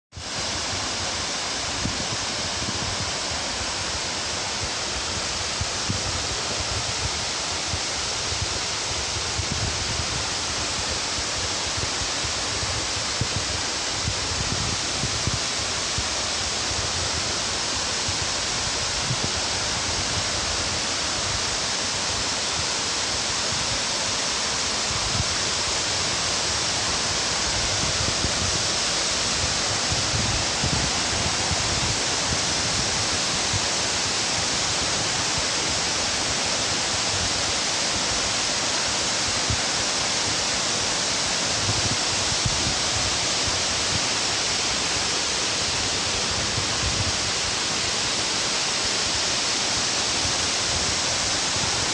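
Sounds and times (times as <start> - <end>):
waterfall roaring: 0.2 - 51.9.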